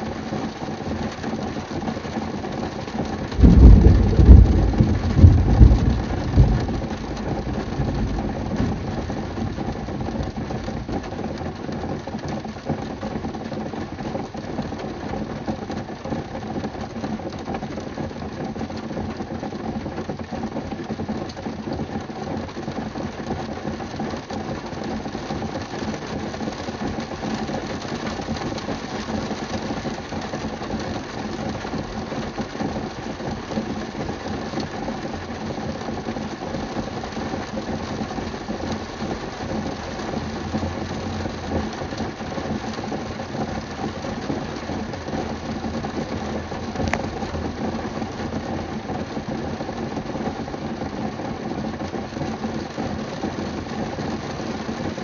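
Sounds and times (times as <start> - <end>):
rain on car roof: 0.0 - 55.0.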